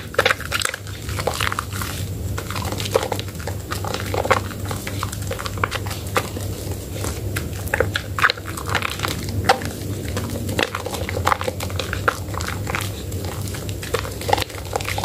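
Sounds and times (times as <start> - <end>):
wet soap squelching: 0.0 - 15.0.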